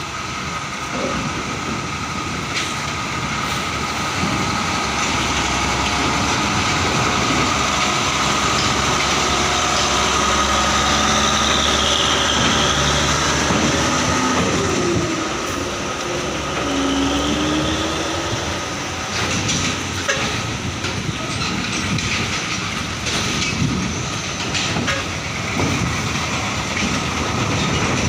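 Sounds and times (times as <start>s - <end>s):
heavy diesel truck engine running: 0.0s - 28.0s.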